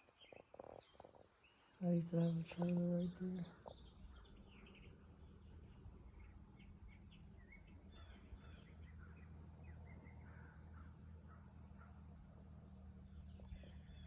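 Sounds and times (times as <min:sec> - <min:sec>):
small birds chirping: 0:00.0 - 0:14.0
steady low hum: 0:01.8 - 0:14.0.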